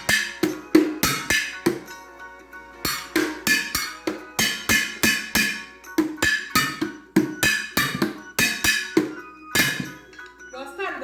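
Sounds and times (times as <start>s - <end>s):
utensils beaten on a pan: 0.0s - 2.1s, 2.7s - 10.2s.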